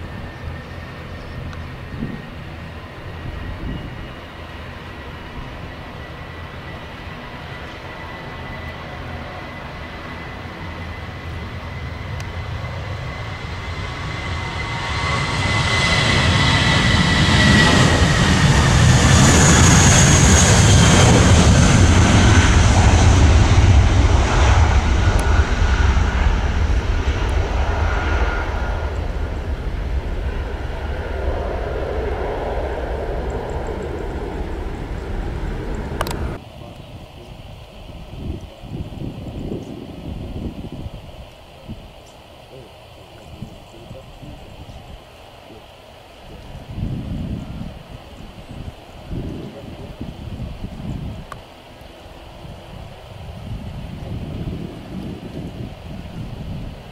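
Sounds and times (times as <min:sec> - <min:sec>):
jet engine fan whine: 0:00.0 - 0:56.9
jet engine roar: 0:00.0 - 0:56.9.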